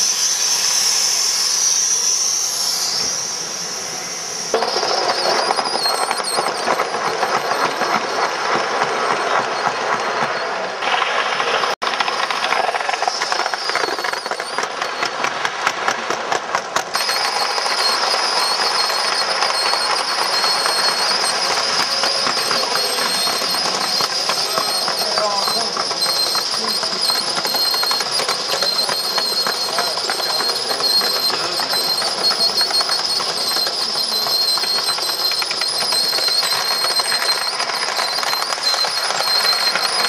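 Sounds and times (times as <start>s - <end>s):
model steam locomotive running: 0.0s - 40.0s
steam hiss: 0.0s - 40.0s.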